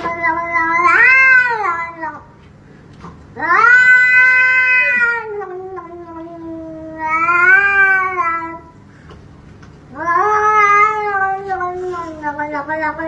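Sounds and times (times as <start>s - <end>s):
cat yowling: 0.0s - 2.2s, 3.4s - 8.7s, 9.9s - 13.0s.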